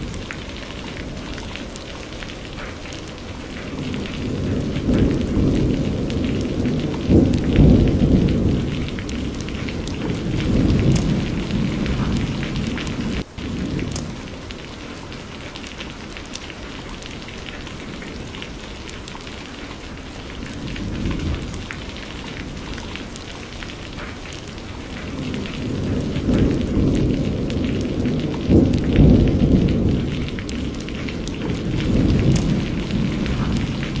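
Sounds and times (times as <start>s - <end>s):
low rumble of thunder: 0.0s - 34.0s
raindrops ticking: 0.0s - 34.0s
steady rain: 0.0s - 34.0s.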